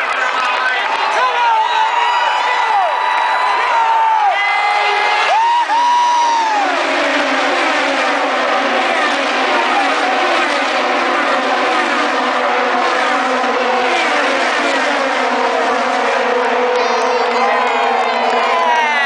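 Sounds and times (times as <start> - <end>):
racing car engines howling past: 2.8 - 19.0.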